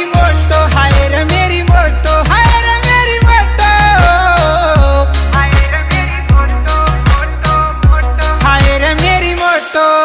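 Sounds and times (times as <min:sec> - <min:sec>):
dj dance song: 0:00.0 - 0:10.0.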